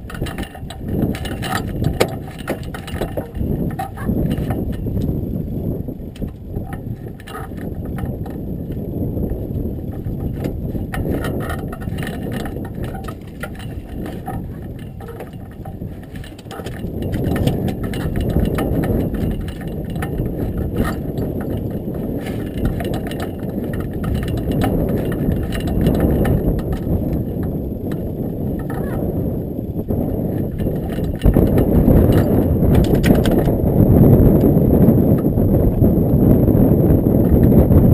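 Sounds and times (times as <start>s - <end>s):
wind rumbling on microphone: 0.0s - 37.9s.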